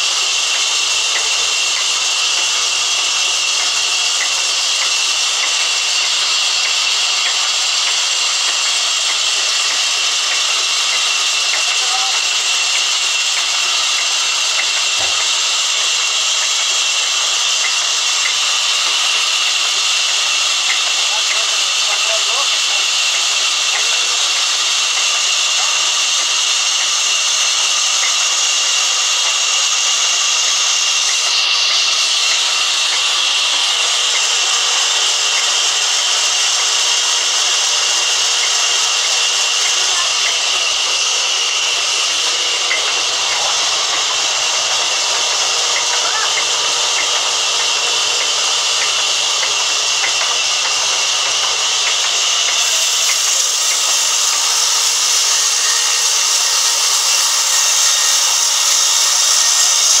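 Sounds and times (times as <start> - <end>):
band saw cutting through log: 0.0 - 60.0.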